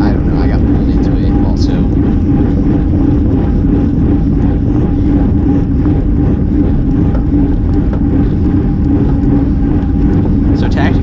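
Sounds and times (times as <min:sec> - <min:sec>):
bicycle road noise: 0:00.0 - 0:11.0
constant low hum: 0:00.0 - 0:11.0
wind rush: 0:00.0 - 0:11.0.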